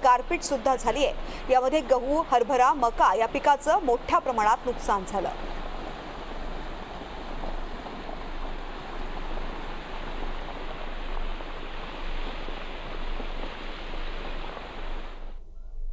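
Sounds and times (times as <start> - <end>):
floodwater rushing: 0.0 - 15.3.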